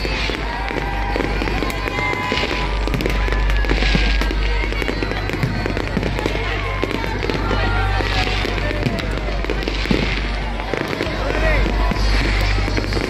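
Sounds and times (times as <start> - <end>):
fireworks bangs and crackles: 0.0 - 13.0
low booming: 0.0 - 13.0.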